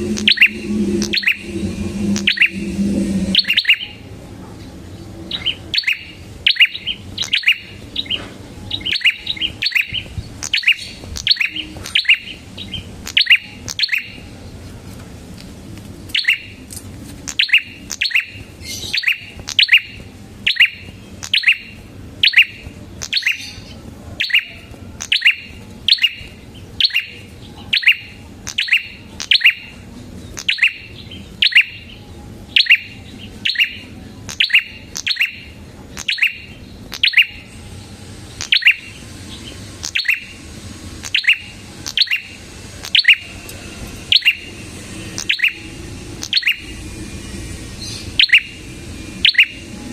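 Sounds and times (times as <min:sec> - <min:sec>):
bird chirping: 0:00.0 - 0:04.0, 0:05.2 - 0:14.2, 0:17.3 - 0:29.7, 0:30.3 - 0:37.5, 0:38.4 - 0:40.4, 0:41.0 - 0:43.2, 0:44.1 - 0:44.5, 0:45.2 - 0:46.8, 0:47.7 - 0:49.7.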